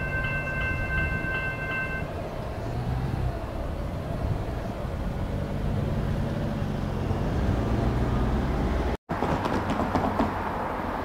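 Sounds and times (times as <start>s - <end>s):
car engines idling and pulling away: 0.0s - 11.0s.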